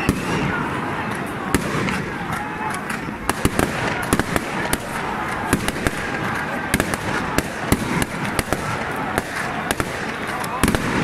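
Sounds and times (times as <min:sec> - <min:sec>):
crowd din: 0:00.0 - 0:11.0
firecrackers cracking: 0:00.0 - 0:11.0.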